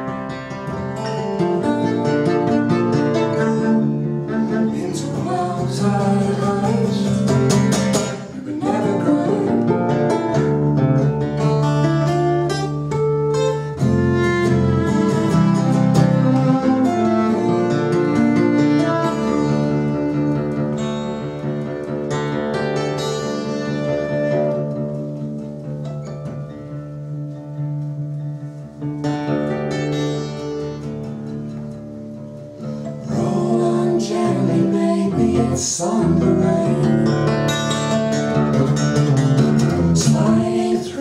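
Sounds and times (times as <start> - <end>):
acoustic guitar and violin: 0.0 - 41.0.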